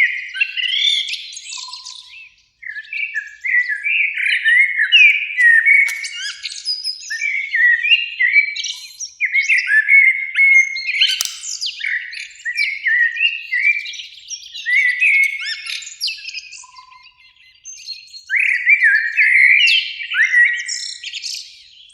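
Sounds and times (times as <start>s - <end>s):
blackbirds singing: 0.0s - 21.9s.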